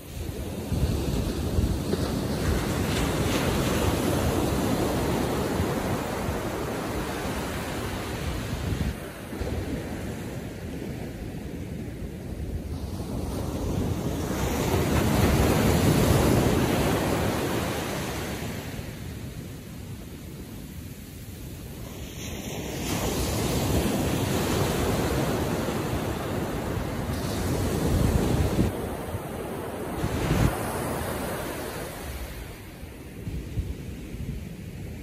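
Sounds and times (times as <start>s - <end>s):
ocean surf washing on beach: 0.0s - 35.0s.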